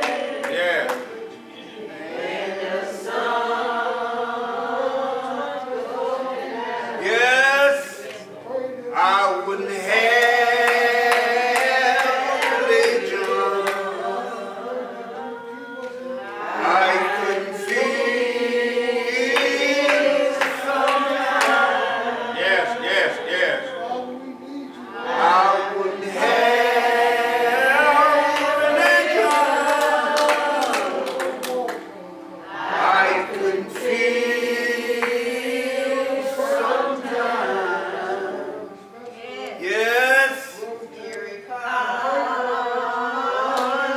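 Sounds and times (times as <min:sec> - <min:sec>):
unaccompanied hymn singing: 0:00.0 - 0:43.9.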